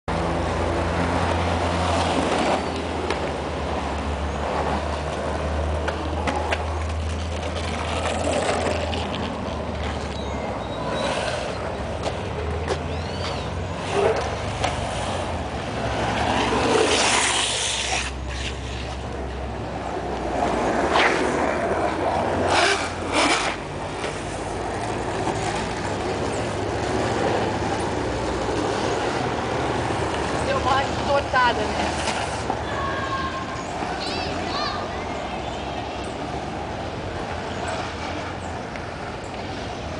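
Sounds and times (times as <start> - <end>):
skateboard wheels rolling on asphalt: 0.1 - 39.9.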